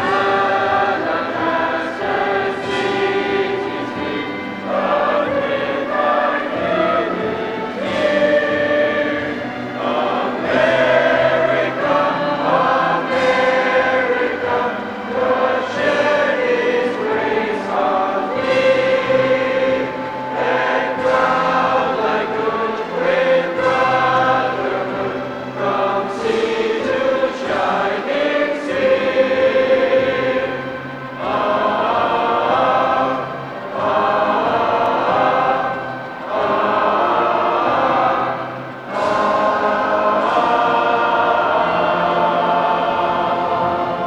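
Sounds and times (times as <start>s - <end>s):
choir singing long notes: 0.0s - 44.0s.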